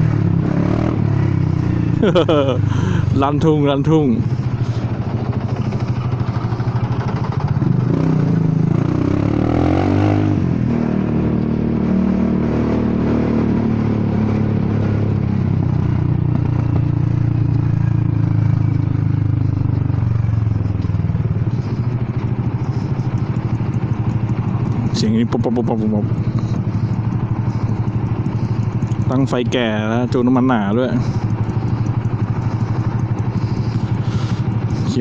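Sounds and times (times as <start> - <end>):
scooter engine revving: 0.0 - 35.0.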